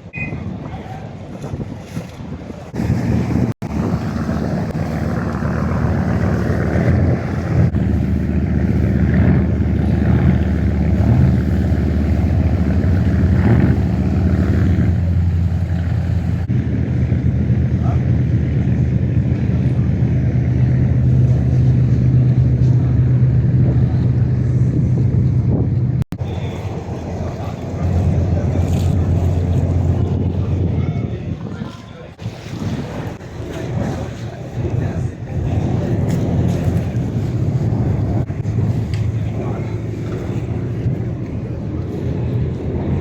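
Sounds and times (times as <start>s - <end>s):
water: 0.0s - 43.0s
wind noise: 0.0s - 43.0s
ferry engine droning: 2.5s - 43.0s.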